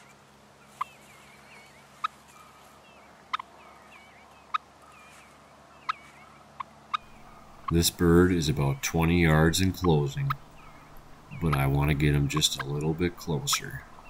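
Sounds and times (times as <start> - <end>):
faint birds chirping: 0.0 - 14.0
turkey clucking: 0.0 - 14.0.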